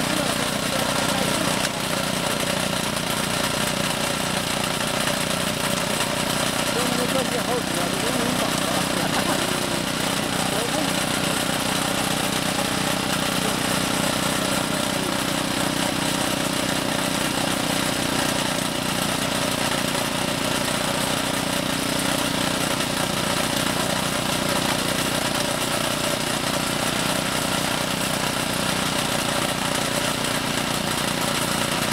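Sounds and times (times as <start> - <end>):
small petrol engine running: 0.0 - 31.9.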